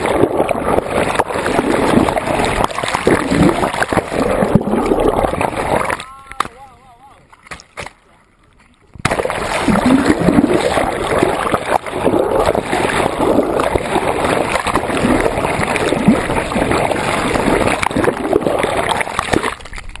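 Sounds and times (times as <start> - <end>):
raft bumping through waves: 0.0 - 8.2, 8.9 - 20.0
water rushing and splashing: 0.0 - 20.0.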